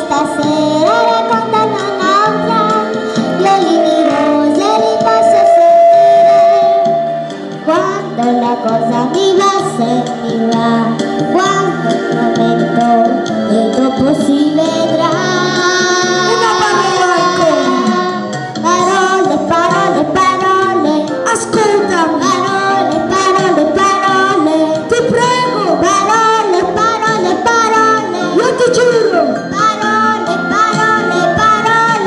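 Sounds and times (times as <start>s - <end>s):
backing music: 0.0s - 32.0s
children singing into microphones: 0.0s - 32.0s.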